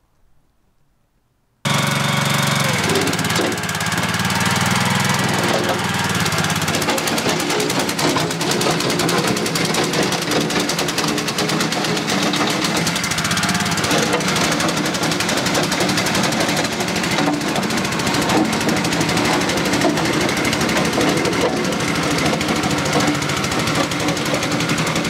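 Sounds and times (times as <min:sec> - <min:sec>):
mini loader engine running: 0:01.7 - 0:25.0
wheels rolling over gravel: 0:02.6 - 0:25.0.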